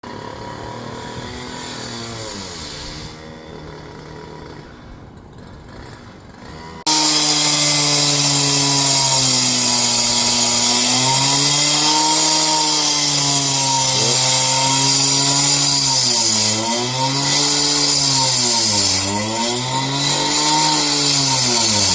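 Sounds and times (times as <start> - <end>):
power tool motor bogging under load: 0.0 - 21.9.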